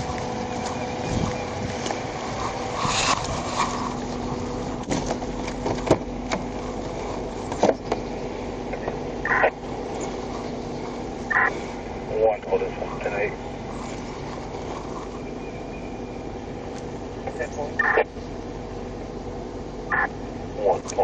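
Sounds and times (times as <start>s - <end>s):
vehicle running: 0.0s - 21.0s.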